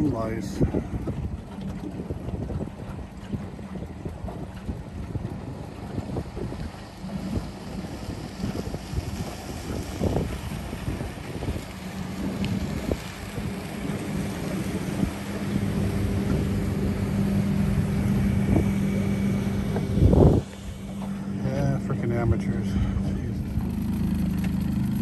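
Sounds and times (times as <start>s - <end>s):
outboard motor humming: 0.0s - 25.0s
wind buffeting microphone: 0.0s - 25.0s.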